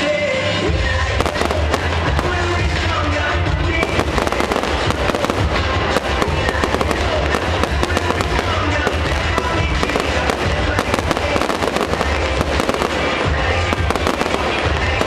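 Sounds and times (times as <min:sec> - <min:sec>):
music playing: 0:00.0 - 0:15.0
fireworks bangs and crackles: 0:00.7 - 0:15.0.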